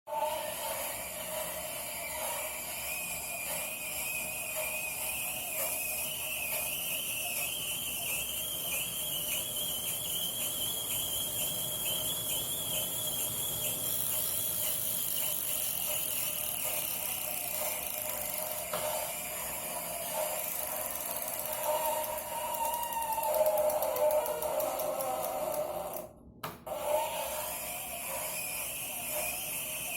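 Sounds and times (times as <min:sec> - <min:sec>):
bike trainer high-pitched squeal: 0:00.1 - 0:26.0, 0:26.7 - 0:29.9.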